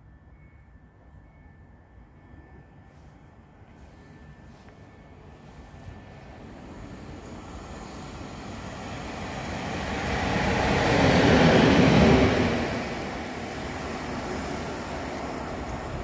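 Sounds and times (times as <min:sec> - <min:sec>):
electric locomotive passing: 0:00.0 - 0:16.0.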